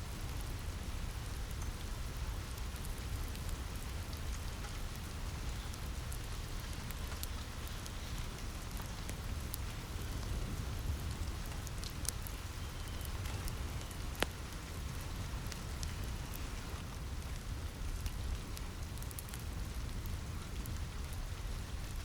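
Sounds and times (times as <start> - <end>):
fire crackling and popping: 0.0 - 22.0
rain falling on roof: 0.0 - 22.0.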